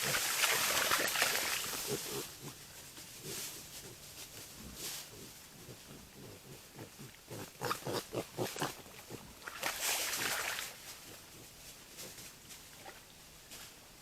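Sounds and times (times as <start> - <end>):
wild boar grunting: 0.0 - 12.2.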